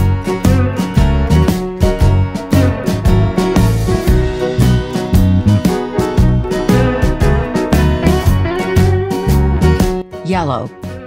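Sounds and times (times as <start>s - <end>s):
cheerful instrumental music: 0.0s - 11.0s.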